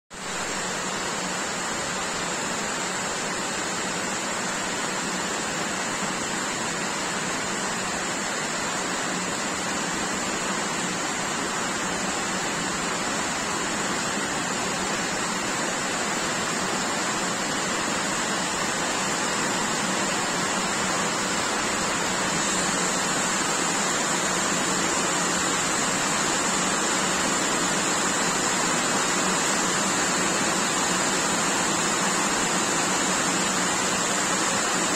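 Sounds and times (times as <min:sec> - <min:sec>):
heavy rain pouring: 0:00.2 - 0:34.9.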